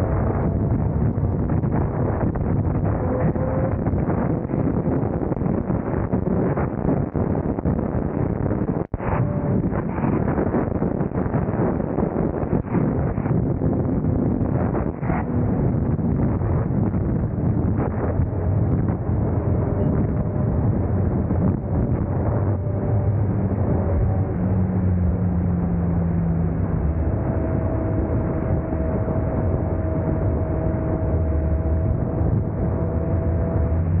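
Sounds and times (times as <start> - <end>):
motorcycle engine at high speed: 0.0 - 34.0
wind rush: 0.0 - 34.0.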